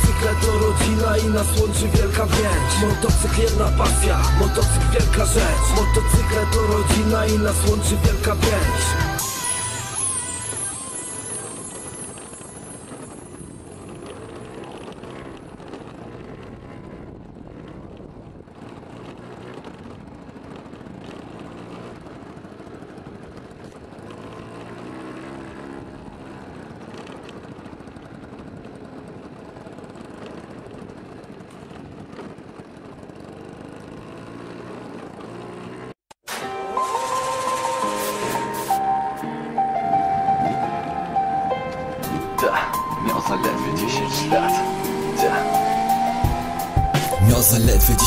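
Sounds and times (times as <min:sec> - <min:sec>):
motor scooter engine: 0:00.0 - 0:48.0
road and wind noise: 0:00.0 - 0:48.0.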